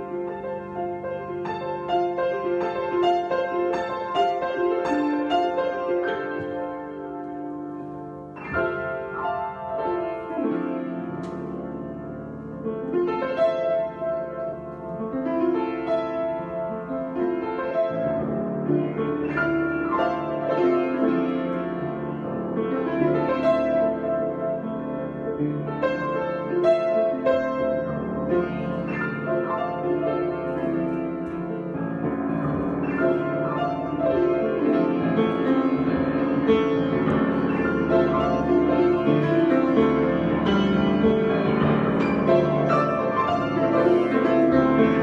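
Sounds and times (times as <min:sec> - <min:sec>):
solo piano: 0:00.0 - 0:45.0.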